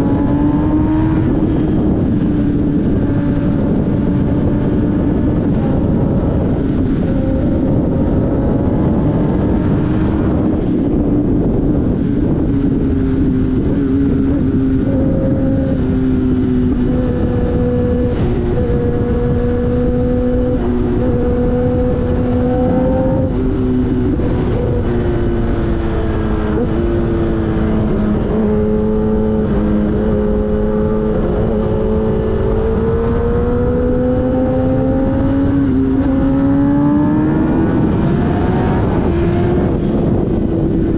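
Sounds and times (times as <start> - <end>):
loud wind rush: 0.0 - 40.9
motorcycle engine cruising: 0.0 - 40.9.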